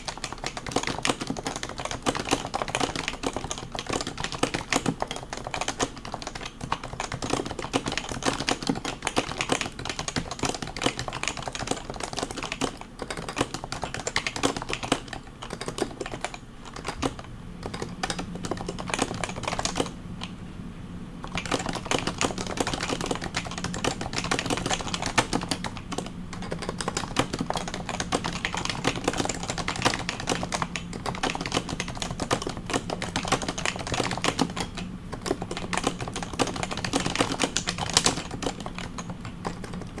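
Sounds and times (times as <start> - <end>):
fast keyboard typing: 0.0 - 20.4, 21.2 - 40.0.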